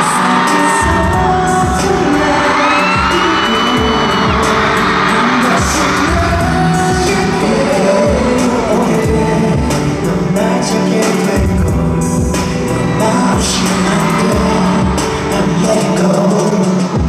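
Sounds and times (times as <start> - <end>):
audience screaming and cheering: 0.0 - 17.0
person singing: 0.0 - 17.0
heavy drum beat: 0.8 - 17.0.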